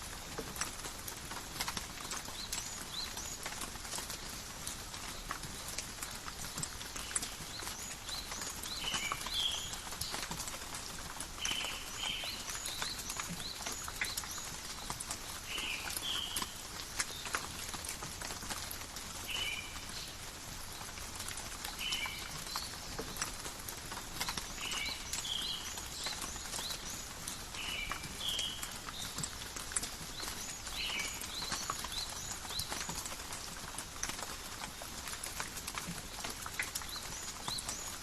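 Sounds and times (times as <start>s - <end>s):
rain pattering on foliage: 0.0s - 38.0s.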